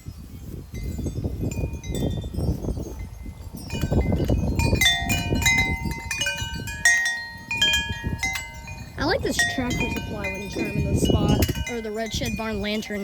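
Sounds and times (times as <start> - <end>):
metal wind chimes ringing: 0.0 - 13.0
wind buffeting microphone: 0.0 - 13.0.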